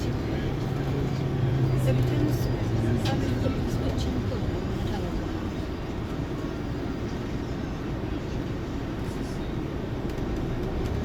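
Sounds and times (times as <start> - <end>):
coach engine and road rumble: 0.0 - 11.0.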